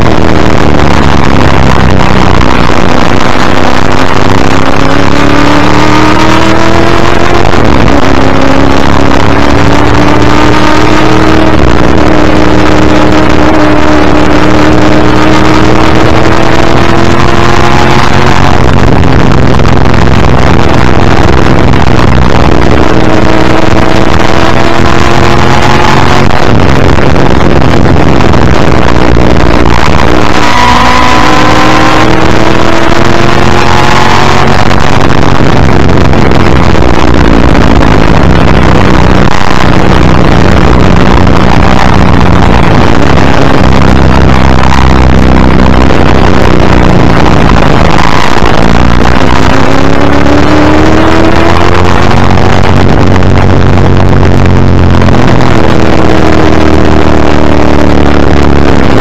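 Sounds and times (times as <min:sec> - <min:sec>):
racing car engine revving: 0:00.0 - 0:59.0
wind and road noise: 0:00.0 - 0:59.0.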